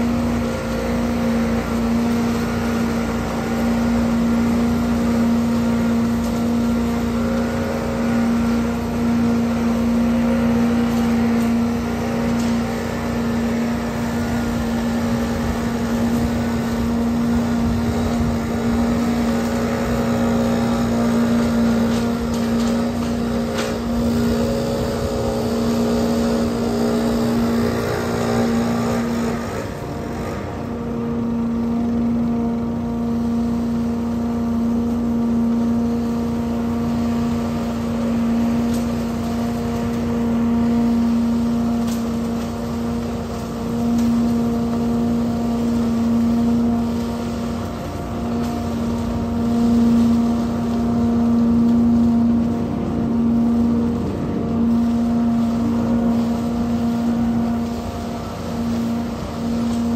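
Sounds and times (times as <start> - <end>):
leaf blower running: 0.0 - 59.9
leaf vacuum engine running: 0.0 - 59.9.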